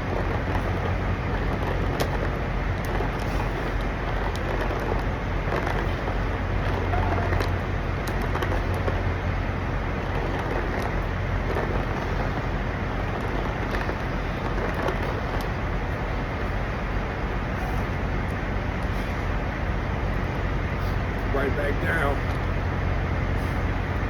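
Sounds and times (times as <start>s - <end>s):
constant low hum: 0.0s - 24.0s
traffic rumble and hiss: 0.0s - 24.0s.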